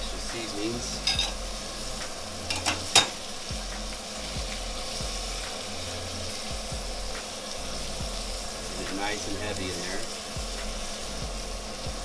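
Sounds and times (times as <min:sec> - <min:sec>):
steaks sizzling on a grill: 0:00.0 - 0:12.0.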